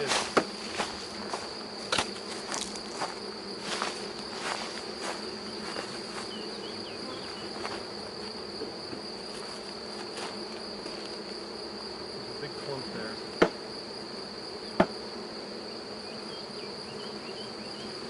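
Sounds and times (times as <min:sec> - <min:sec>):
honeybee swarm buzzing: 0:00.0 - 0:18.0.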